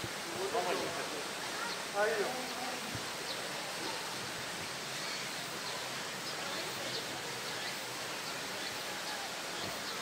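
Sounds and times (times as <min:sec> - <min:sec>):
outdoor background rush: 0:00.0 - 0:10.0.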